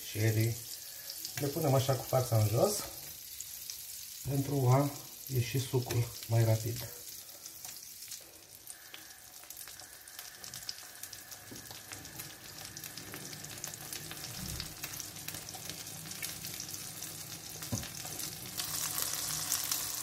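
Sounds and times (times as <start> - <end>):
tomatoes sizzling in oil: 0.0 - 20.0.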